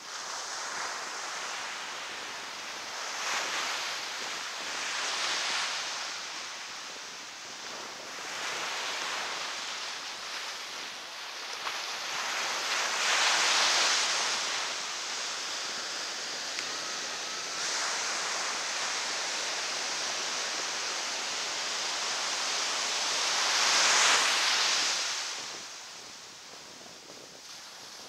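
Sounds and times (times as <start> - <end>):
ocean surf breaking: 0.4 - 28.0.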